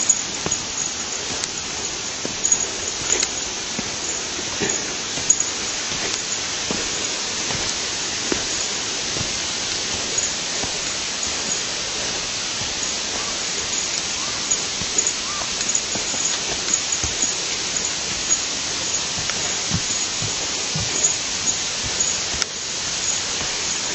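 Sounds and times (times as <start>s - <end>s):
flowing stream water: 0.0s - 23.9s.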